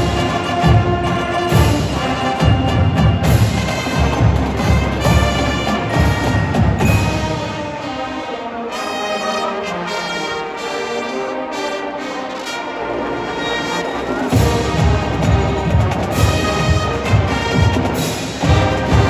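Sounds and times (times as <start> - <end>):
brass section holding notes: 0.0 - 19.0.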